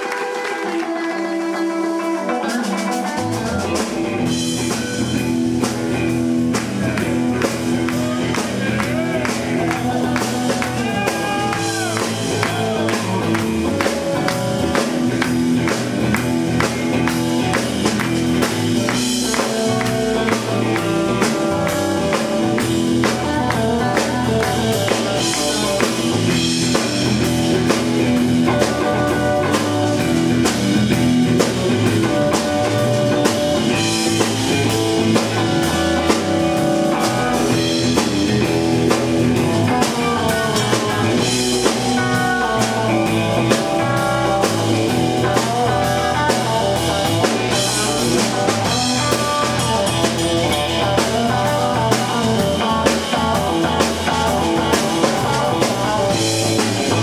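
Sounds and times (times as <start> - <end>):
bass guitar: 0.0 - 57.0
electric guitar with string bends: 0.0 - 57.0
steady drum beat: 2.0 - 57.0.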